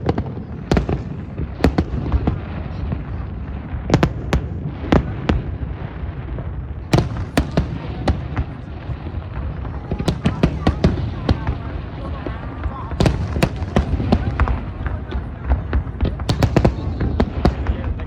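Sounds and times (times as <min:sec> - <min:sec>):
fireworks sharp bangs: 0:00.0 - 0:18.0.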